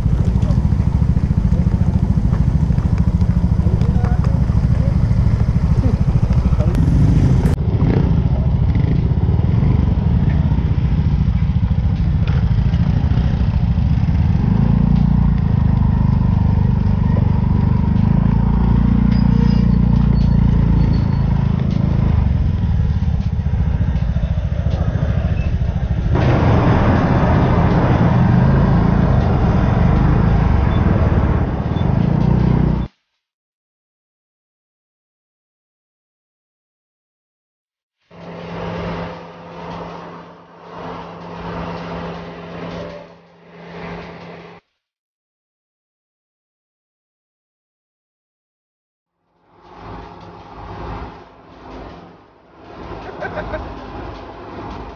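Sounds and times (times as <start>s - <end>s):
motorbike and ferry engines rumbling: 0.0s - 32.9s, 38.1s - 44.6s, 49.5s - 54.9s.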